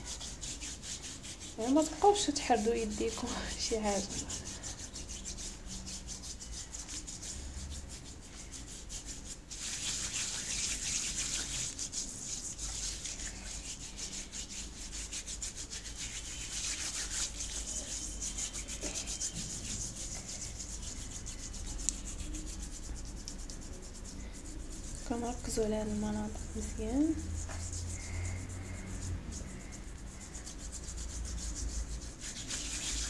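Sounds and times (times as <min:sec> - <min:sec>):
hands scrubbing with gritty paste: 0:00.0 - 0:33.0.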